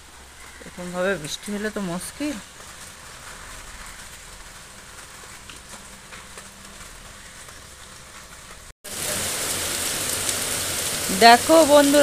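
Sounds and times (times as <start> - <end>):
downpour pelting on standing water: 0.0 - 12.0
heavy rain falling: 0.0 - 12.0.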